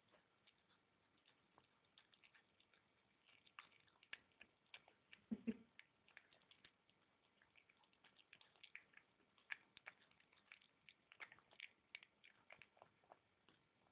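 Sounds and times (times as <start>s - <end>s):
cat chewing: 0.0s - 13.9s.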